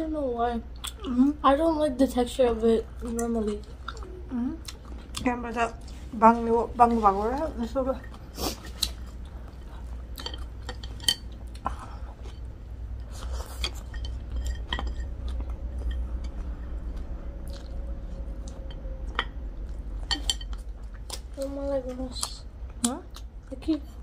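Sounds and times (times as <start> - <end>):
low steady hum: 0.0 - 24.0
people chewing food: 0.5 - 1.5, 2.2 - 24.0.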